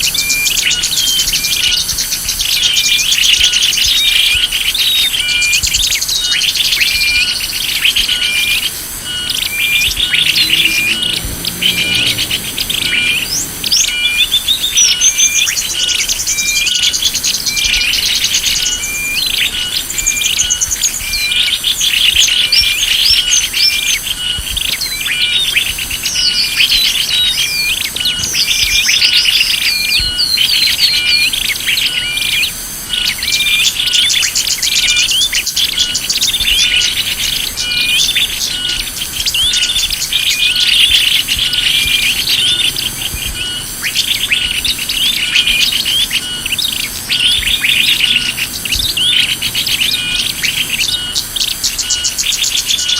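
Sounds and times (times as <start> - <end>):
songbirds chirping and trilling: 0.0 - 52.9.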